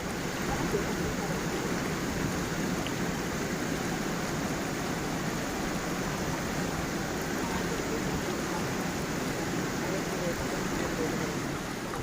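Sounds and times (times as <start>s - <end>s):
stream and small waterfall: 0.0s - 12.0s.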